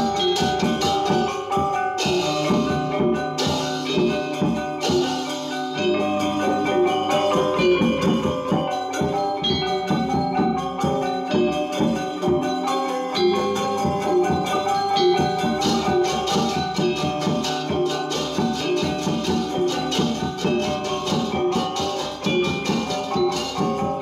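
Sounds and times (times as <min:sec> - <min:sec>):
gamelan gong ensemble playing: 0:00.0 - 0:24.0.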